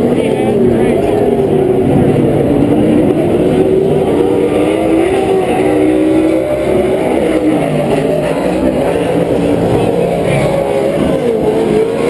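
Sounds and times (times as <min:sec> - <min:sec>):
race truck engines revving: 0:00.0 - 0:12.0.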